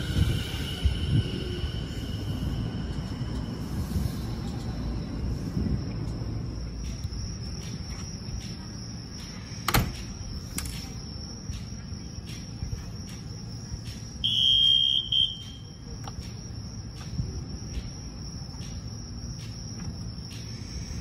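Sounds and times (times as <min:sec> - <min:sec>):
electric train humming: 0:00.0 - 0:21.0
insects chirping: 0:00.0 - 0:21.0.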